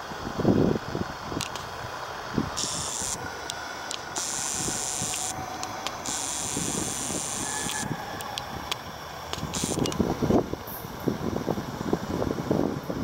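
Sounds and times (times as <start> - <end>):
high hiss: 0.0 - 11.0
electric train approaching: 0.0 - 13.0
wind buffeting microphone: 0.0 - 13.0.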